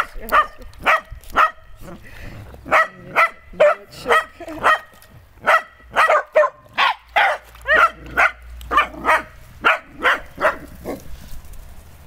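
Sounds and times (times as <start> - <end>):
puppy barking: 0.3 - 1.6, 2.7 - 11.0.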